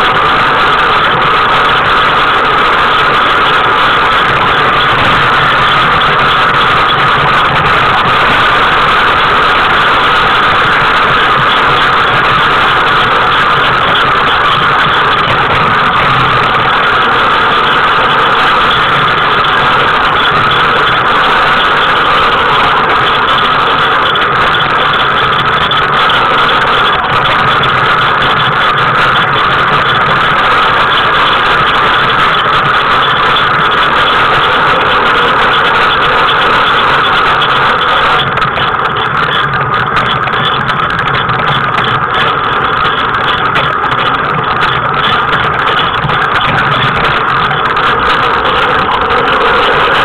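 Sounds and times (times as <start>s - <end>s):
wheels rolling over asphalt: 0.0s - 50.0s.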